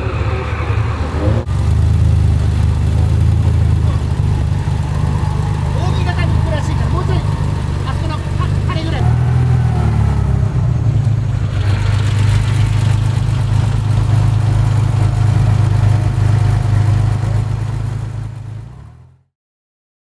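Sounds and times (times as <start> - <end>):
car engine idling: 0.0 - 19.2.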